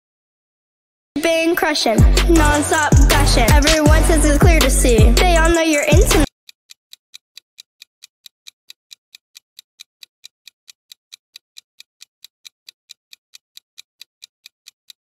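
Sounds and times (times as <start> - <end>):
clock ticks: 1.9 - 15.0.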